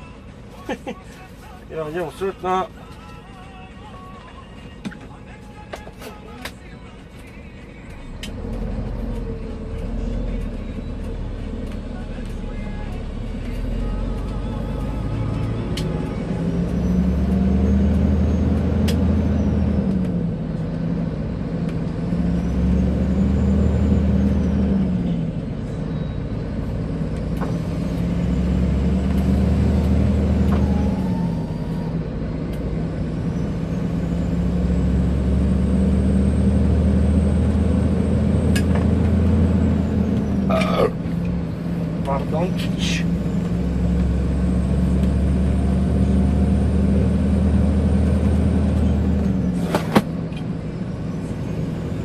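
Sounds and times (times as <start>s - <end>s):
diesel truck engine under load: 4.5s - 52.0s.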